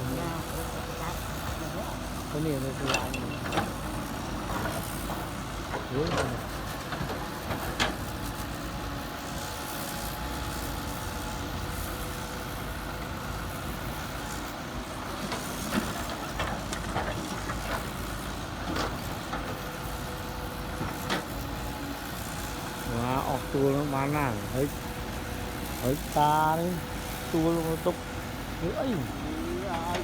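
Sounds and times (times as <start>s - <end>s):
construction machinery engine rumbling: 0.0s - 9.7s, 10.7s - 30.0s.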